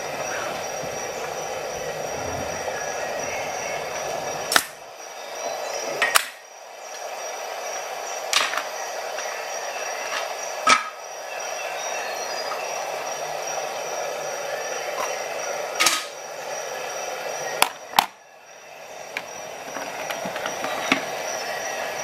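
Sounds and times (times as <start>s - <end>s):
rumbling background noise: 0.0s - 22.0s.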